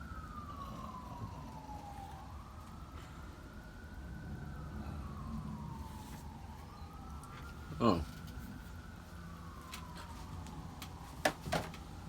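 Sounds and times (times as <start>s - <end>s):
wailing siren: 0.0s - 12.0s.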